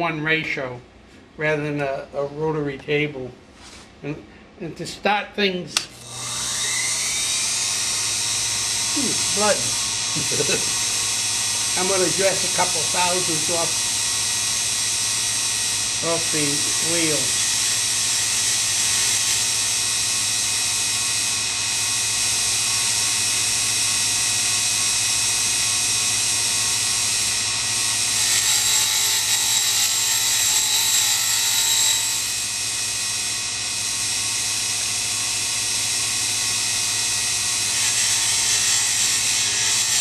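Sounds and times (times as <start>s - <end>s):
grinding wheel whining: 5.9s - 40.0s.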